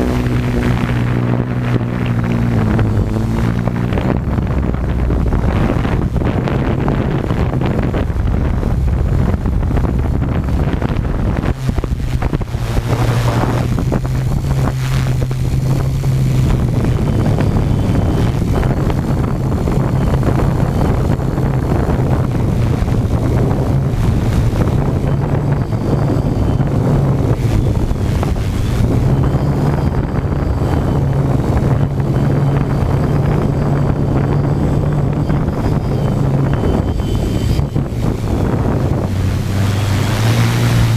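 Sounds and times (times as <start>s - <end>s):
quadcopter propellers humming: 0.0s - 40.9s
wind buffeting microphone: 0.0s - 40.9s.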